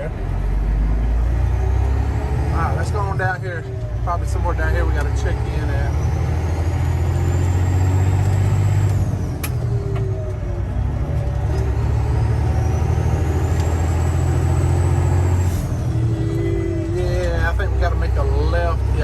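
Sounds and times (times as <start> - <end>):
diesel truck engine pulling: 0.0 - 19.0.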